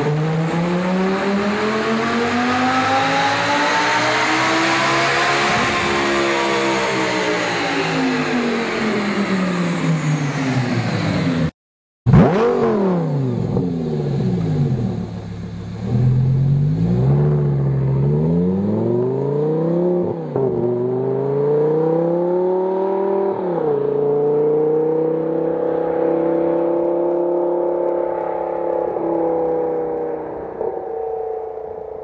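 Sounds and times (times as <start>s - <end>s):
sports car engine accelerating: 0.0s - 11.5s, 12.1s - 32.0s.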